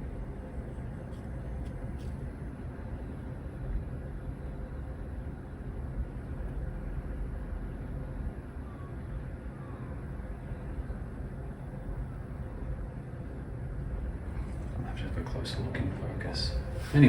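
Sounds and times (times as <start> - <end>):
faint hum: 0.0 - 17.0
low background rumble: 0.0 - 17.0.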